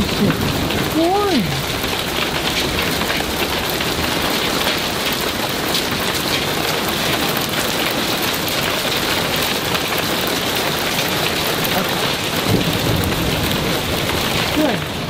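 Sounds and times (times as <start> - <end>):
heavy rain falling: 0.0 - 15.0
raindrops striking surfaces: 0.0 - 15.0.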